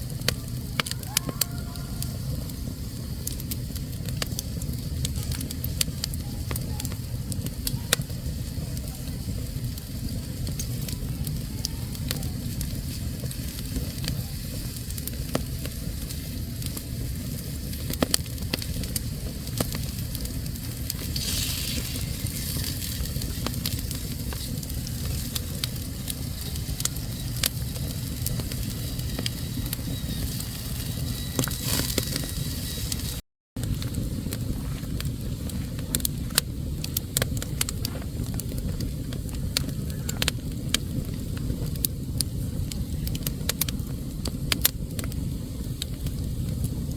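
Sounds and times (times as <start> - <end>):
wood fire crackling in fireplace: 0.0 - 46.9.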